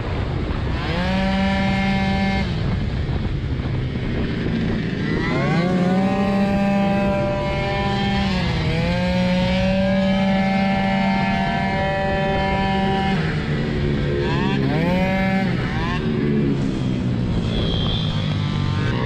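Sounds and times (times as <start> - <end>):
scooter two-stroke engine revving: 0.1 - 19.0.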